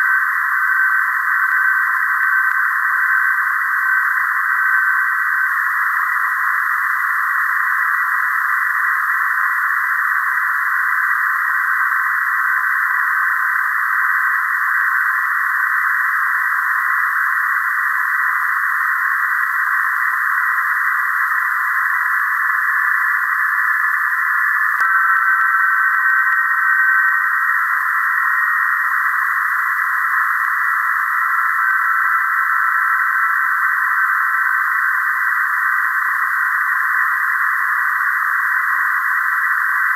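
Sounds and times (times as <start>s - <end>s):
shortwave radio hiss: 5.2s - 39.9s.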